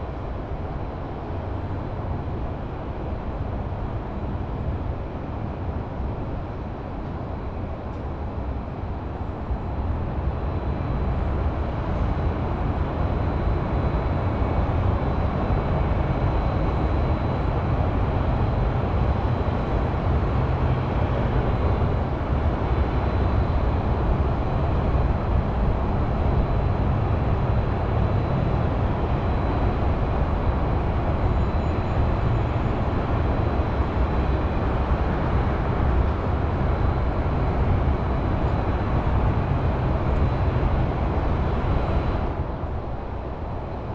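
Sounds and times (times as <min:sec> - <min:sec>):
distant highway traffic rumble: 0:06.2 - 0:43.9.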